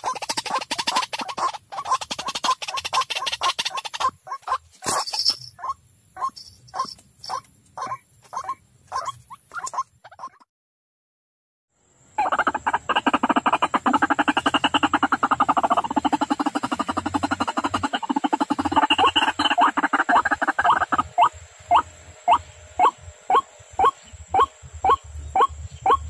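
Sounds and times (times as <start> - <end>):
waterhen calls: 0.0 - 10.4, 12.2 - 26.0.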